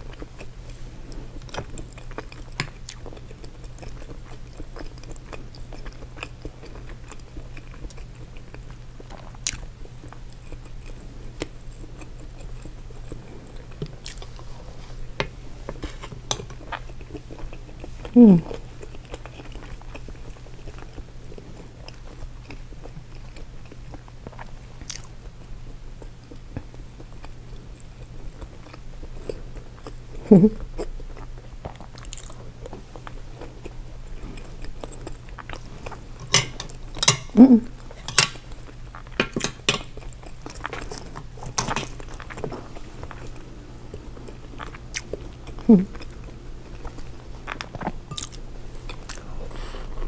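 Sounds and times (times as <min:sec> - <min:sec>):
chewing and biting: 0:00.0 - 0:50.0.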